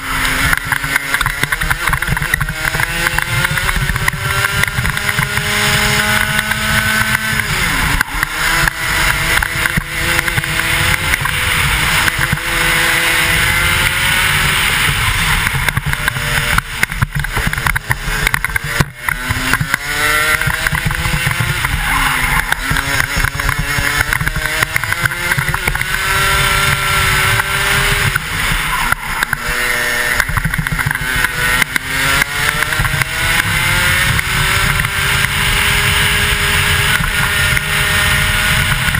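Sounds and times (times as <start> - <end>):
kart engine revving: 0.0 - 38.9
wind rumble on microphone: 0.0 - 38.9.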